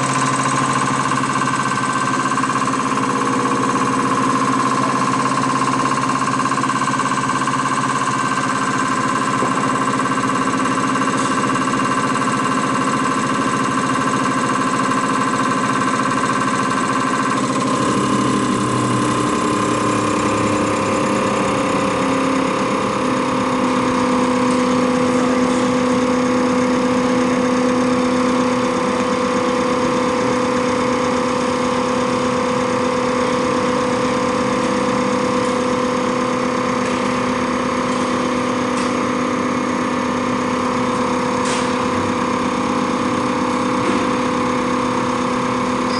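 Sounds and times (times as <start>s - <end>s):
test bench machine running: 0.0s - 45.9s.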